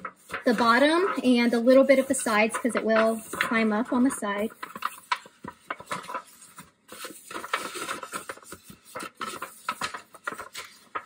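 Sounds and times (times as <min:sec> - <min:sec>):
foil pan crinkling: 0:00.0 - 0:11.0
paper towel wiping foil: 0:00.0 - 0:11.0.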